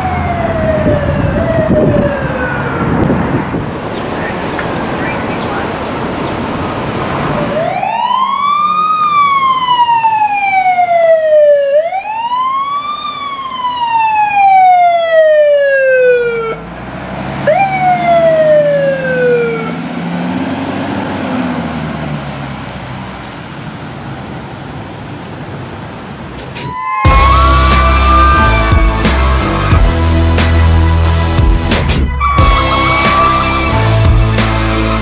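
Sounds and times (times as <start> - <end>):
truck engine rumbling past: 0.0 - 11.5, 16.2 - 35.0
fire engine siren wailing: 0.0 - 23.4, 26.4 - 35.0.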